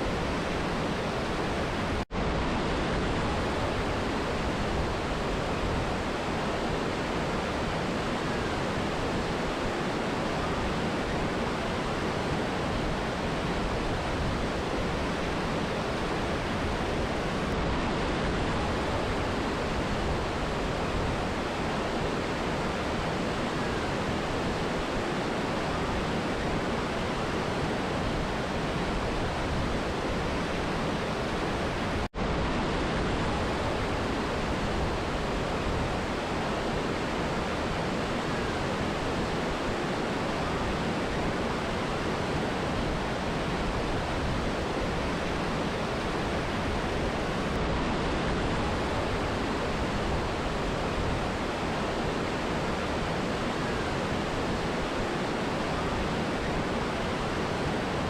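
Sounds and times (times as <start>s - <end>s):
river and waterfall roaring: 0.0s - 58.0s.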